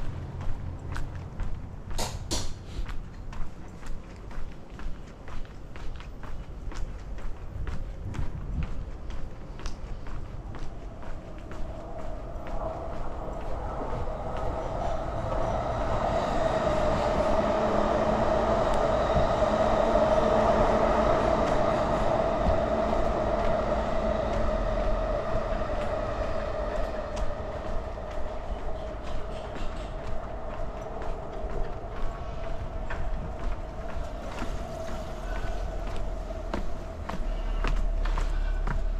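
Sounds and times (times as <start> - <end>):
train passing: 0.0 - 38.9.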